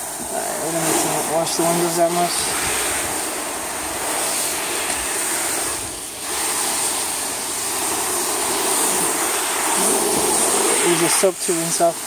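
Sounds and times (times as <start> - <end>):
hose nozzle spraying water: 0.0 - 12.0.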